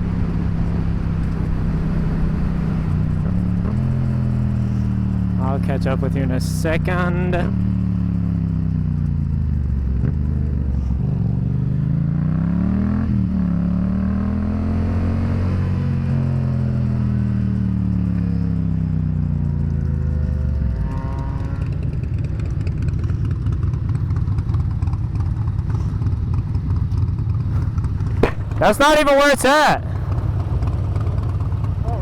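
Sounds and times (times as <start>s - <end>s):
motorcycle engine revving: 0.0s - 28.7s, 29.8s - 32.0s
wind and road noise: 0.0s - 32.0s.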